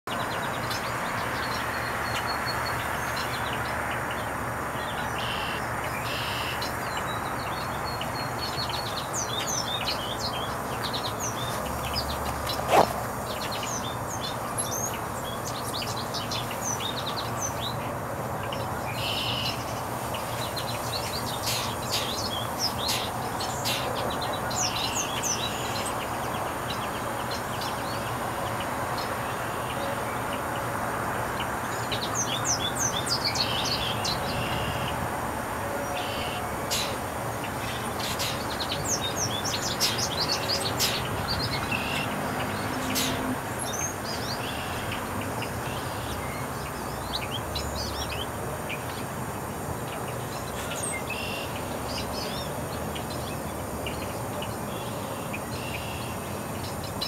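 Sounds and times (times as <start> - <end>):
birds twittering: 0.1 - 30.7, 31.3 - 35.0, 35.7 - 57.0.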